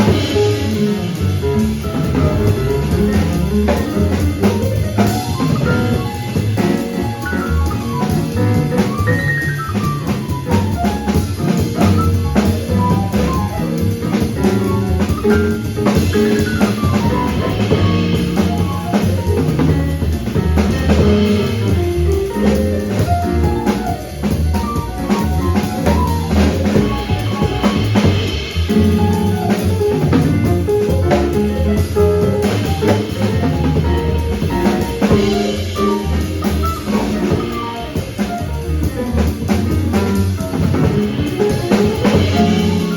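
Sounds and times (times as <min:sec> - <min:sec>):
bass: 0:00.0 - 0:42.9
drum kit: 0:00.0 - 0:42.9
piano: 0:00.0 - 0:42.9.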